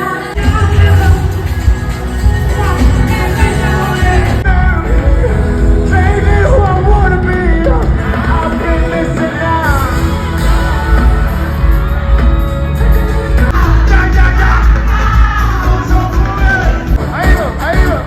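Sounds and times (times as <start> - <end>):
person singing: 0.0 - 18.0
pop song with heavy bass beat: 0.0 - 18.0.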